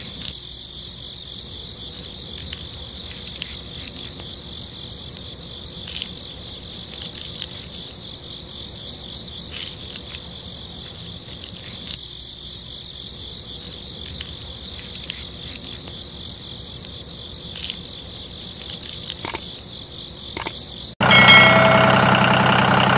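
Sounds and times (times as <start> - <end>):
insects chirring: 0.0 - 22.8.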